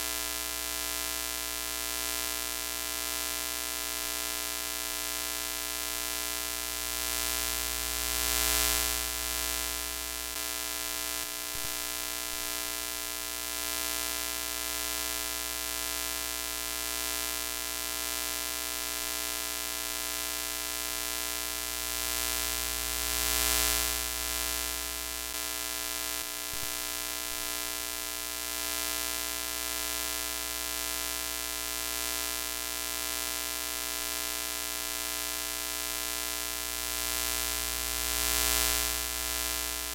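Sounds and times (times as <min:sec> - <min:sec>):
electrical buzzing hum: 0:00.0 - 0:39.9.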